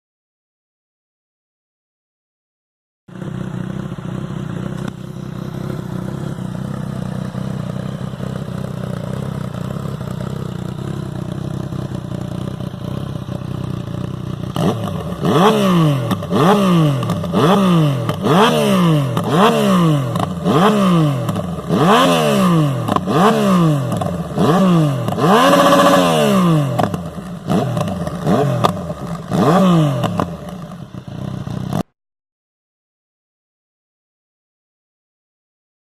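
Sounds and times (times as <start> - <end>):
motorcycle engine idling and revving: 3.1 - 31.9.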